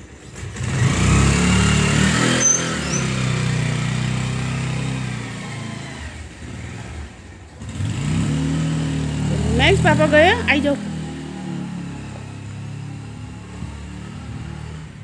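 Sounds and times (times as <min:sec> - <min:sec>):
motorcycle engine pulling away: 0:00.0 - 0:15.0.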